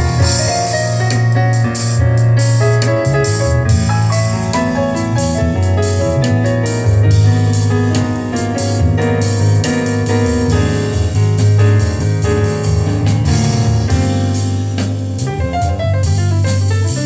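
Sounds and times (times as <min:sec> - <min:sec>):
instrumental music through speakers: 0:00.0 - 0:17.0.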